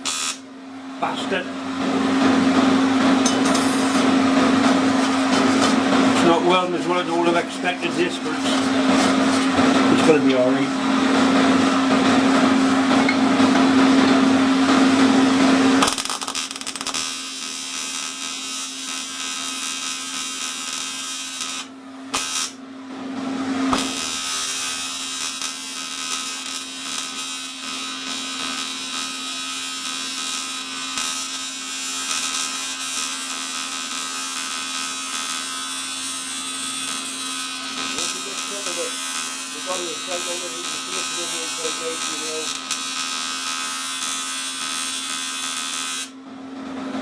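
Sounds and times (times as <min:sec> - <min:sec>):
welding arc buzzing: 0:00.0 - 0:22.6, 0:23.7 - 0:46.2.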